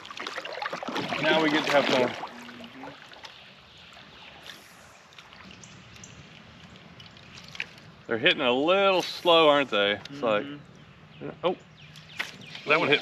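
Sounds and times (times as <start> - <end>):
creek water trickling and lapping: 0.0 - 13.0.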